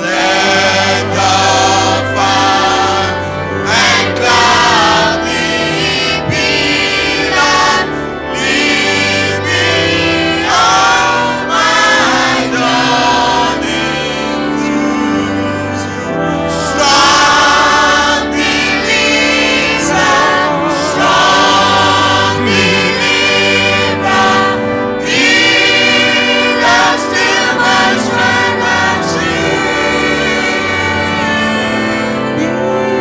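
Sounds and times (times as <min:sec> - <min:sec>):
gospel choir singing: 0:00.0 - 0:33.0
instrumental accompaniment: 0:00.0 - 0:33.0.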